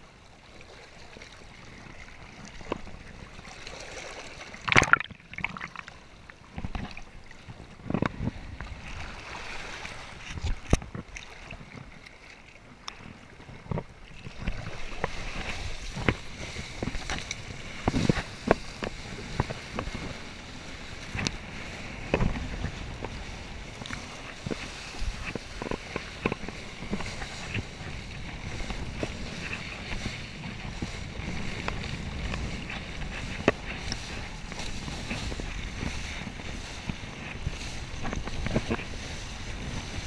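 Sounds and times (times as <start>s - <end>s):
board slapping water: 0.0s - 40.0s
rush of water and wind: 0.0s - 40.0s.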